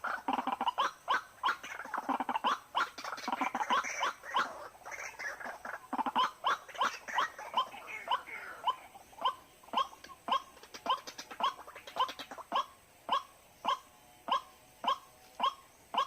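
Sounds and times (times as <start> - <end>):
waterhens calling hoarse notes: 0.0 - 16.0.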